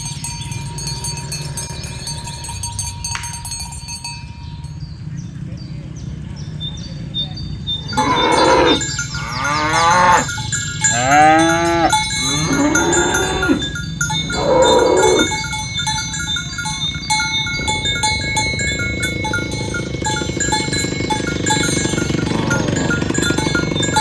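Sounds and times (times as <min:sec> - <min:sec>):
cows mooing: 0:00.0 - 0:03.7, 0:04.6 - 0:24.0
cowbells clanking: 0:00.0 - 0:24.0.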